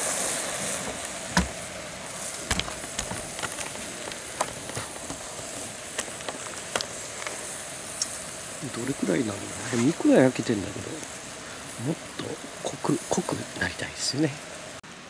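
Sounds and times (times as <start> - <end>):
skewers sizzling over charcoal: 0.0 - 15.0
sharp pops and crackles: 0.4 - 13.6.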